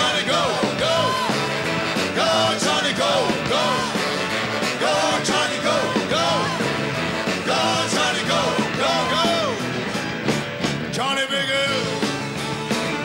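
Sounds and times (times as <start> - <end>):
man singing loudly: 0.0 - 9.6, 10.9 - 13.0
live rock band playing: 0.0 - 13.0.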